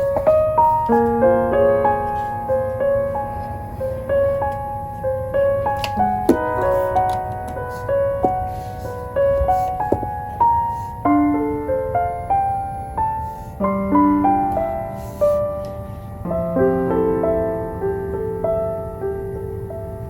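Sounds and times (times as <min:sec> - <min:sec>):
gentle solo piano: 0:00.0 - 0:20.0.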